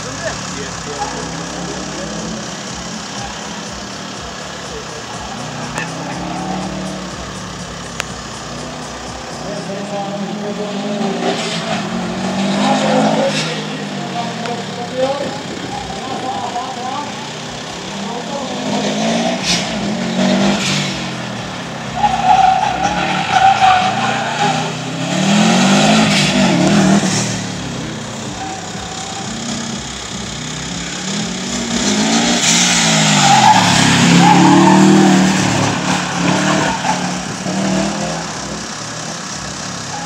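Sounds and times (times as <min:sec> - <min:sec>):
car engine revving: 0:00.0 - 0:40.0
tyres squealing: 0:00.0 - 0:40.0.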